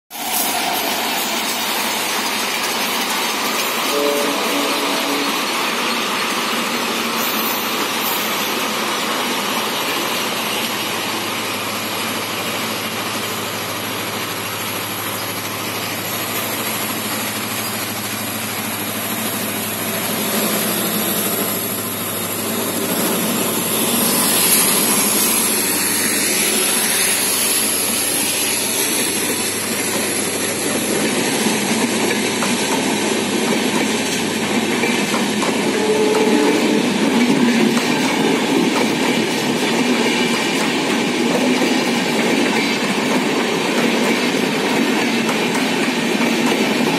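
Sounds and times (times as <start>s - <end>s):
trains rushing past: 0.1s - 46.9s.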